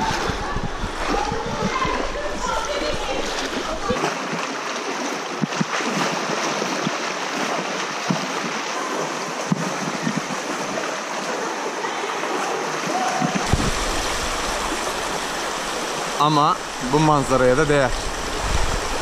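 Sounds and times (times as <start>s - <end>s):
river rushing over pebbles: 0.0s - 19.0s
splashes from wading: 0.0s - 19.0s.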